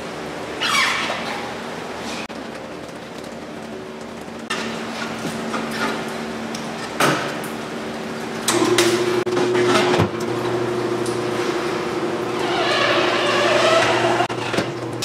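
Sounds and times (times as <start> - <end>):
tire changer motor hum: 2.3 - 15.0.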